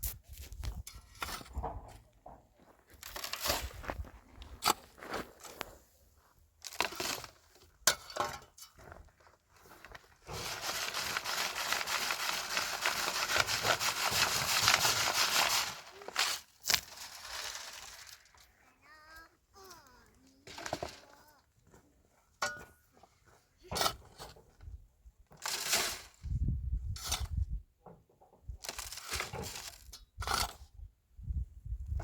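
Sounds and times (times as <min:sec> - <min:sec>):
scrapes and knocks in soil: 0:00.0 - 0:18.6, 0:19.7 - 0:32.0
gritty soil rustle: 0:00.0 - 0:27.6, 0:28.6 - 0:30.6.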